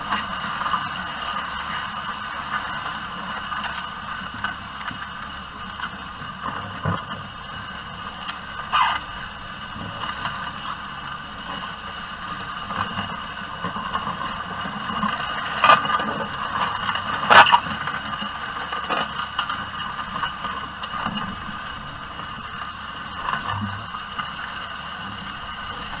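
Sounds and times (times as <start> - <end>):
plough rattling and scraping soil: 0.0 - 26.0.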